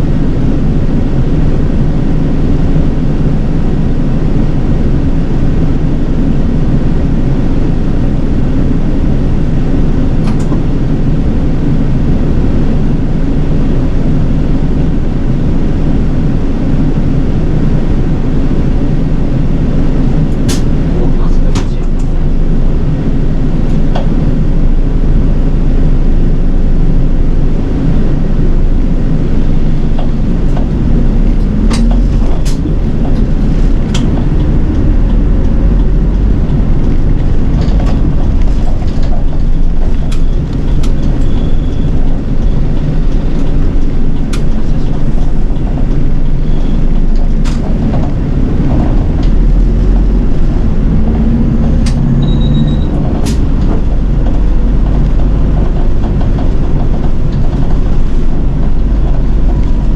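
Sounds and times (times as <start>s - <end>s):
bus engine and road rumble: 0.0s - 59.9s.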